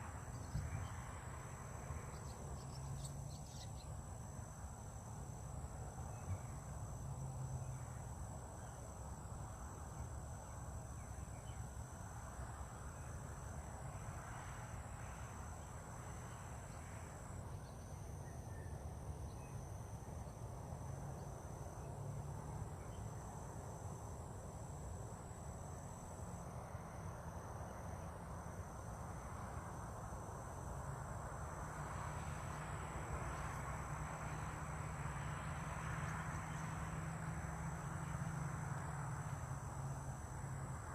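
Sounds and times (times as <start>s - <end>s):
insect chorus trilling: 0.0s - 40.9s.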